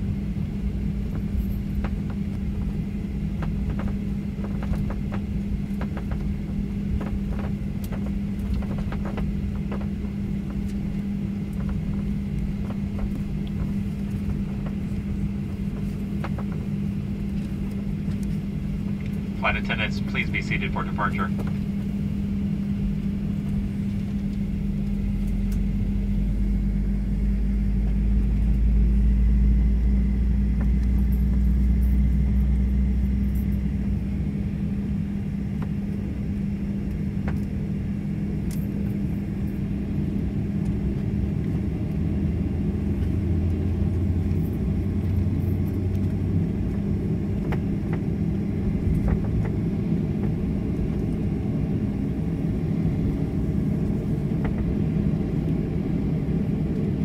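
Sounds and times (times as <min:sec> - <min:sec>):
airplane engines humming: 0:00.0 - 0:57.0.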